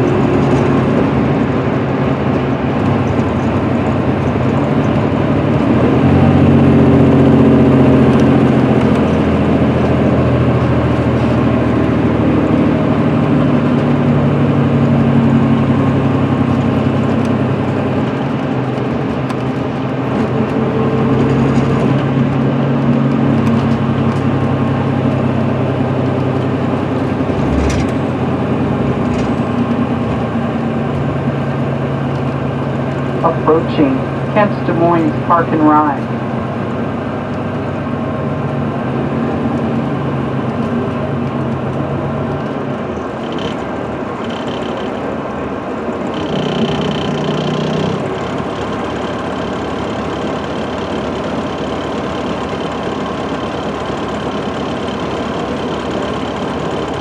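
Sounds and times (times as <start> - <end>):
engine drone: 0.0 - 57.0
tyre and road noise: 0.0 - 57.0.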